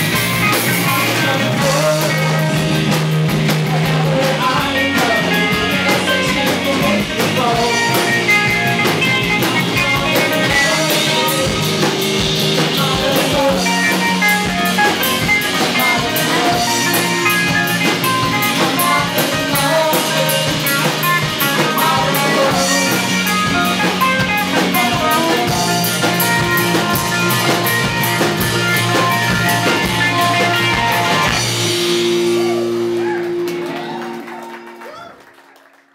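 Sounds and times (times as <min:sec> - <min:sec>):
rock band playing: 0:00.0 - 0:35.3.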